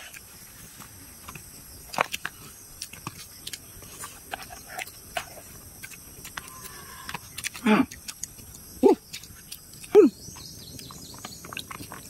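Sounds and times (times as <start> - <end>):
people chewing: 0.0 - 12.0
mouth smacks and clicks: 1.3 - 12.0.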